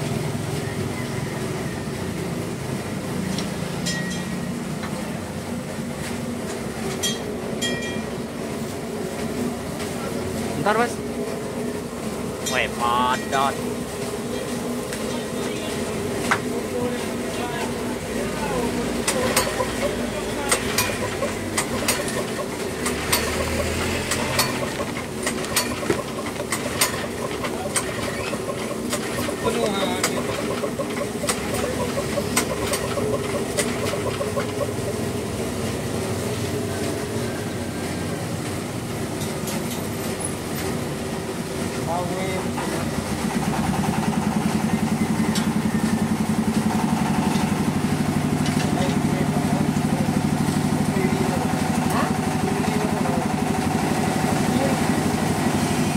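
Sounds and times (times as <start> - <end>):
grinding mill motor humming: 0.0 - 55.9.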